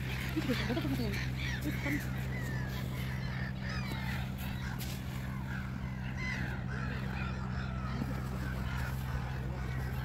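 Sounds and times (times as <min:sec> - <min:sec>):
gulls calling: 0:00.0 - 0:10.0
steady low hum: 0:00.0 - 0:10.0.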